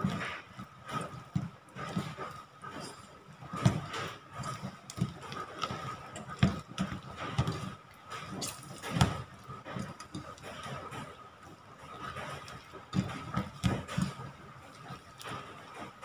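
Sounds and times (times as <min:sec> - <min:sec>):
wet scraping of batter: 0:00.0 - 0:16.0.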